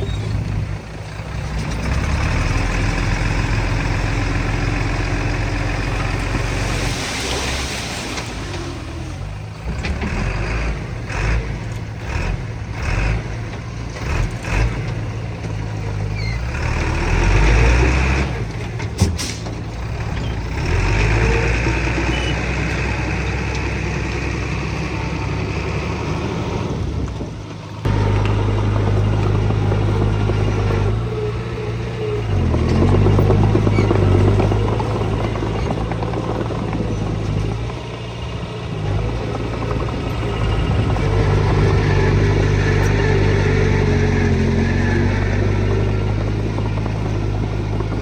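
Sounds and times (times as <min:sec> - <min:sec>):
diesel engines under load: 0:00.0 - 0:48.0.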